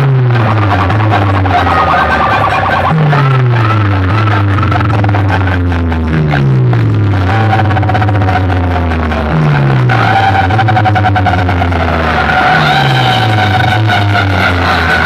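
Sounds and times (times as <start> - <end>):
loud electronic dance music: 0.0 - 15.0.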